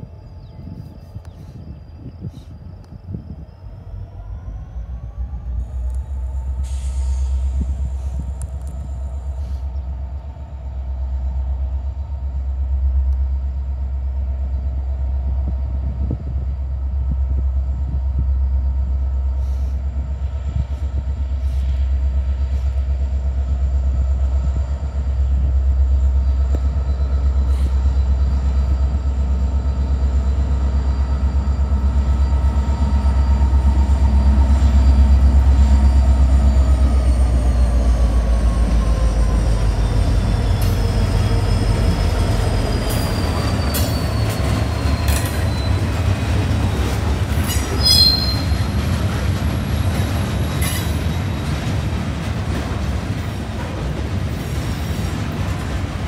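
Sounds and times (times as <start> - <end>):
diesel locomotive low rumble: 0.0 - 56.0.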